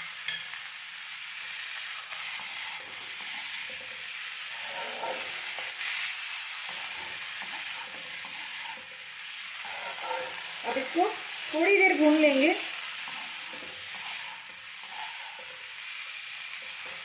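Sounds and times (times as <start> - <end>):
vegetables sizzling in oil: 0.0 - 17.0
metal spatula scraping a pan: 1.9 - 17.0.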